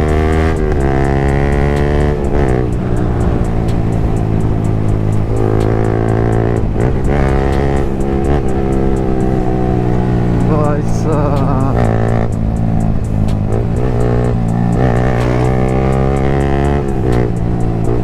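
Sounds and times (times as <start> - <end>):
motorcycle engine under way: 0.0 - 18.0.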